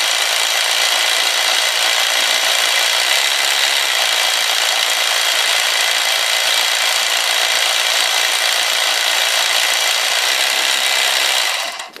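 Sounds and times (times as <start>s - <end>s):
electric jigsaw motor whine: 0.0s - 12.0s.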